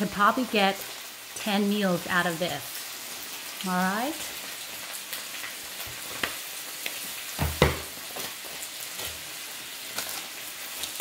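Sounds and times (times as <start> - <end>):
meat sizzling in oil: 0.0 - 11.0
oil crackles and pops: 0.0 - 11.0.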